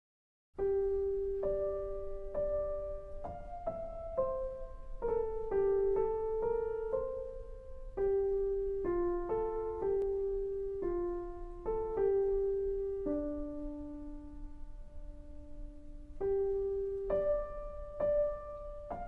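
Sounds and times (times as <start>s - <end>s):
gentle piano melody: 0.6s - 19.0s.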